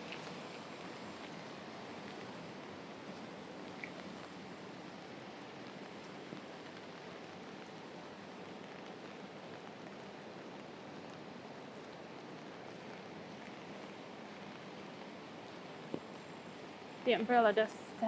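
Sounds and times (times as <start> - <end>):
rain on an umbrella: 0.0 - 18.0.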